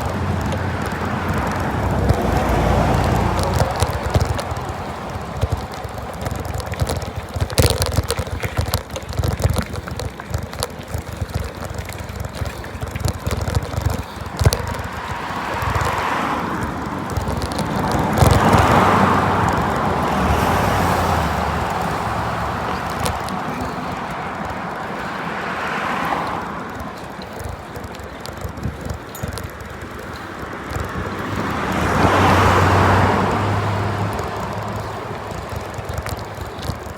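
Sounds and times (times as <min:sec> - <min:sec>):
rattles and clicks: 0:00.0 - 0:36.9
wind buffeting microphone: 0:00.0 - 0:36.9.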